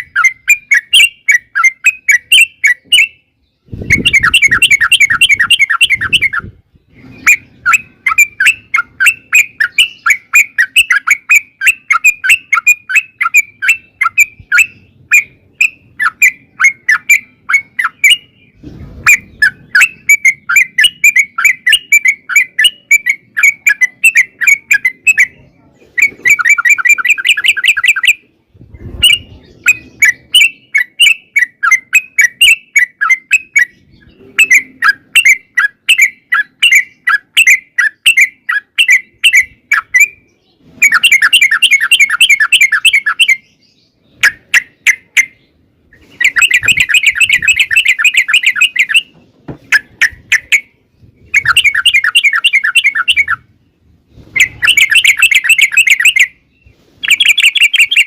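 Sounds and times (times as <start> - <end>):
bird chattering song: 0.0 - 58.0.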